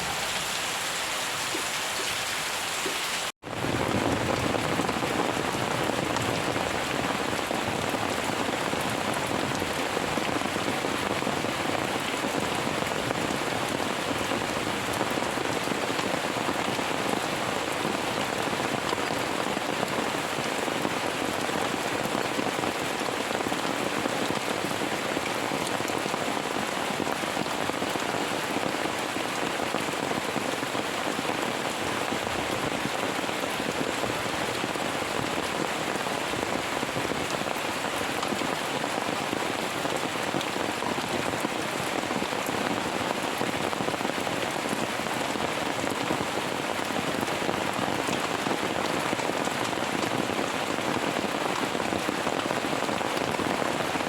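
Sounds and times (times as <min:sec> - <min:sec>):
heavy rain patter: 0:00.0 - 0:54.0.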